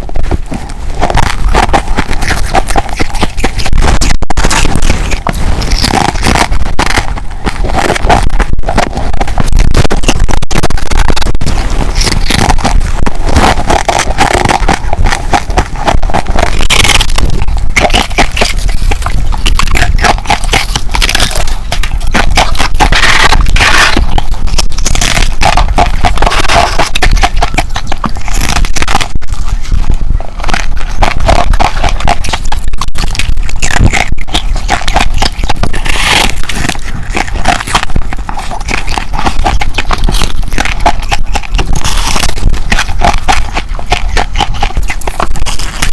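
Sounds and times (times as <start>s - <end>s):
ice being crunched by teeth: 0.0s - 45.9s.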